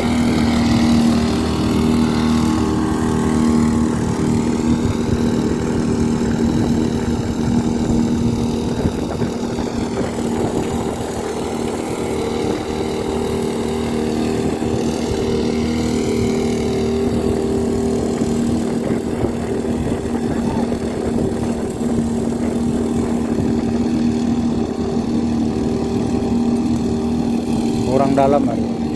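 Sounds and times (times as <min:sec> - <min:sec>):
two-stroke engine buzzing: 0:00.0 - 0:28.9.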